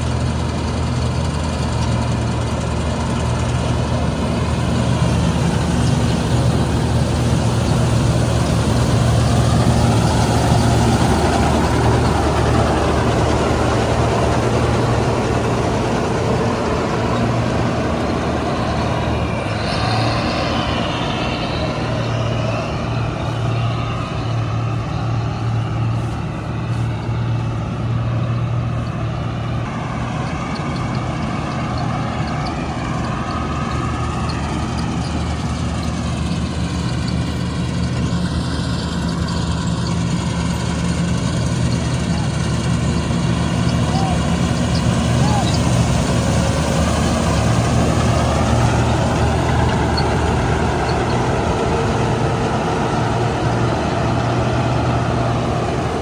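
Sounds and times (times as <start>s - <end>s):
heavy diesel engine running: 0.0s - 56.0s
wavering whine: 1.8s - 56.0s.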